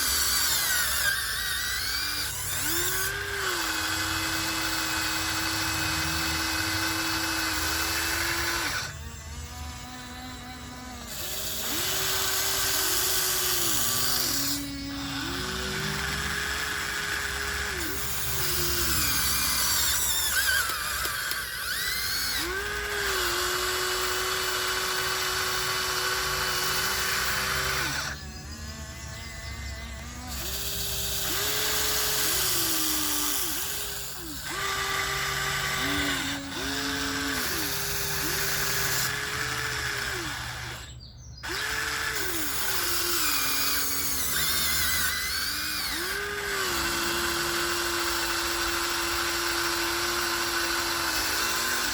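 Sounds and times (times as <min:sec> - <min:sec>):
model excavator motors whining: 0:00.0 - 0:51.9.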